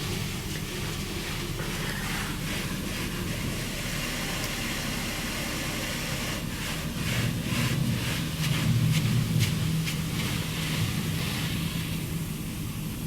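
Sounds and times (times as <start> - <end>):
car wash machine humming: 0.0 - 13.0.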